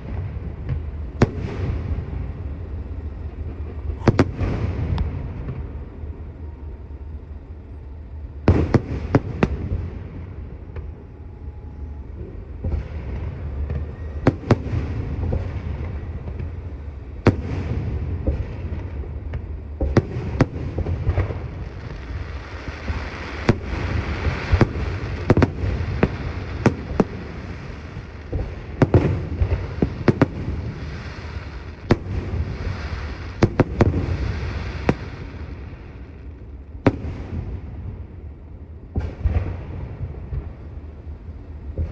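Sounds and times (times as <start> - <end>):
fireworks bangs: 0.0 - 7.6, 8.4 - 38.3, 38.9 - 41.9
fireworks crackling: 0.0 - 11.2, 12.1 - 41.9.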